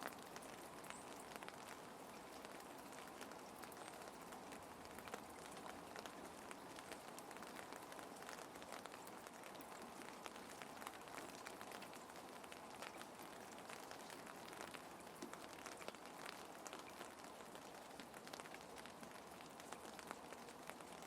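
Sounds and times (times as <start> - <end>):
gentle rain patter: 0.0 - 21.0.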